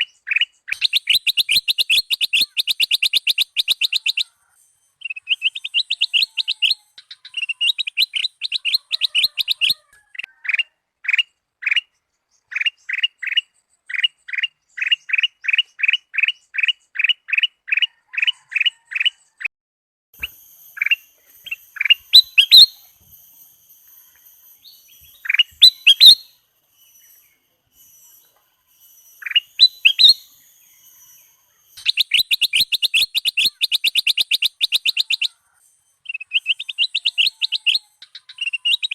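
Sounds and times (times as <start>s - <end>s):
bulbul singing: 0.0s - 17.6s, 20.2s - 38.9s.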